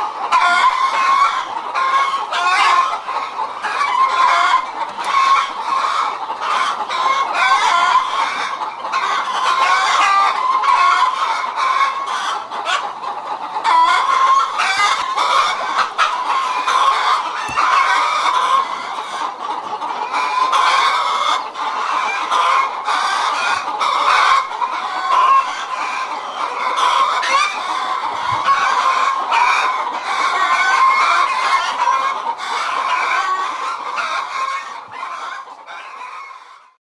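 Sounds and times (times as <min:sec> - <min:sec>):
chickens clucking: 0:00.0 - 0:36.8.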